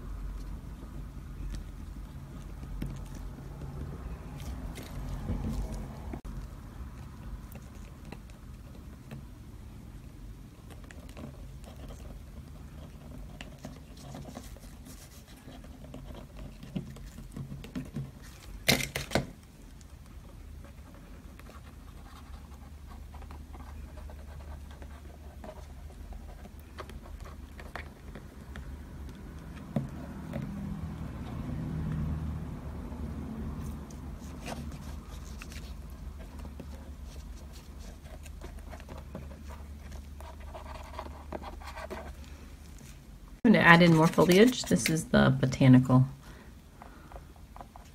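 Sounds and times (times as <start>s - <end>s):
low room hum: 0.0s - 47.9s
brush scraping and tapping paper: 0.3s - 9.3s, 10.6s - 30.7s, 33.5s - 45.1s.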